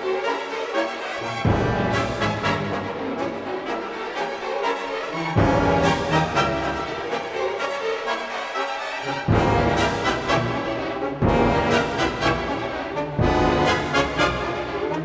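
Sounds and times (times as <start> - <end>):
orchestral music led by brass: 0.0 - 15.0.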